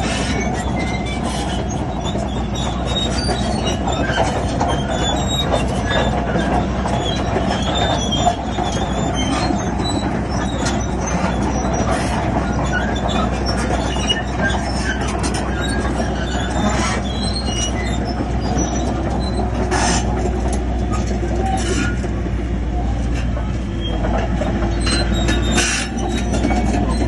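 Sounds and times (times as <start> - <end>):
bulldozer engine running: 0.0 - 27.0
metal tracks squealing and clanking: 0.0 - 27.0.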